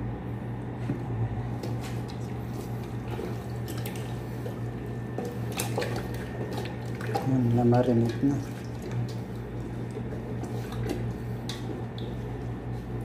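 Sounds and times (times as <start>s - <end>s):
steady low hum: 0.0s - 13.0s
hands squelching raw chicken: 1.6s - 13.0s.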